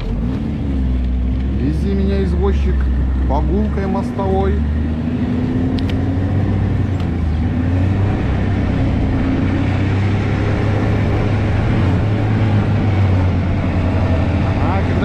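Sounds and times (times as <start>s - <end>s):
snowmobile engine droning: 0.0s - 15.0s.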